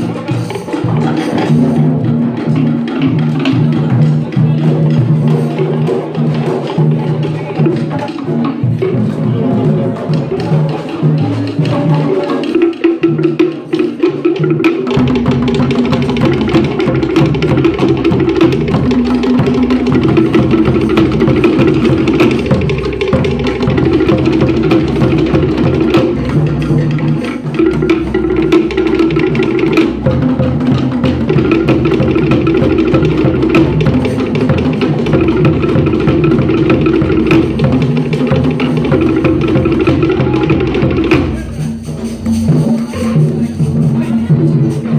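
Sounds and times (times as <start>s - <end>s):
deep drum beat: 0.0s - 44.9s
skin-headed drums: 0.0s - 44.9s
slit log drums beaten with sticks: 0.0s - 44.9s.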